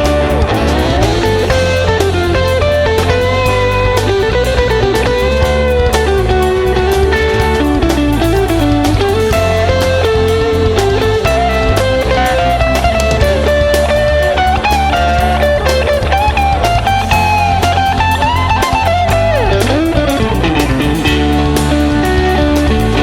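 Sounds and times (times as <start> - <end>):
lead guitar bending and sliding: 0.0 - 23.0
rock blues instrumental: 0.0 - 23.0.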